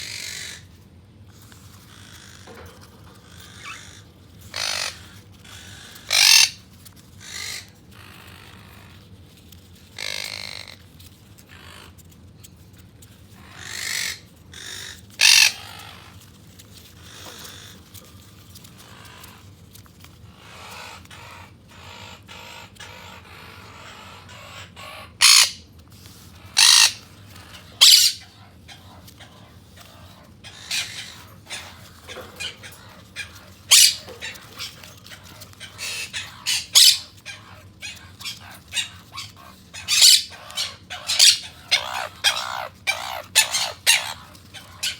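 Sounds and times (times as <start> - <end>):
parrots squawking: 0.0 - 0.8, 1.4 - 9.0, 9.9 - 12.0, 13.4 - 16.2, 17.0 - 19.5, 20.3 - 44.9.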